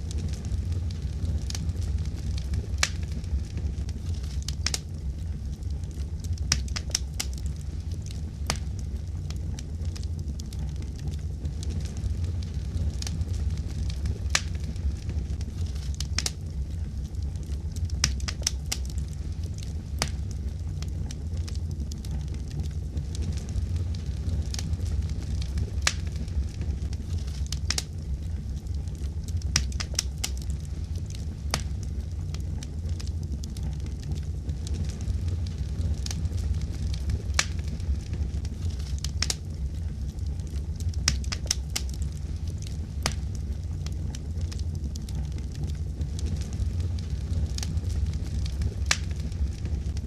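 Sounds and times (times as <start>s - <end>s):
fire crackling with sharp pops: 0.0s - 50.0s
low rumble: 0.0s - 50.0s.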